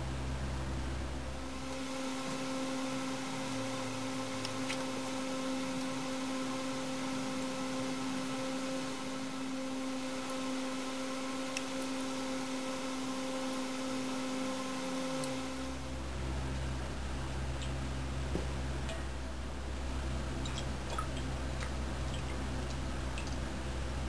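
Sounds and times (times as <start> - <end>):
machine hum with hiss: 0.0 - 24.0.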